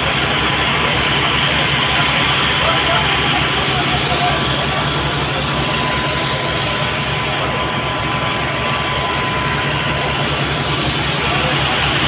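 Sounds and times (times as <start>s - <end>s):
loud rushing noise: 0.0s - 12.0s
truck engine throbbing: 0.0s - 12.0s.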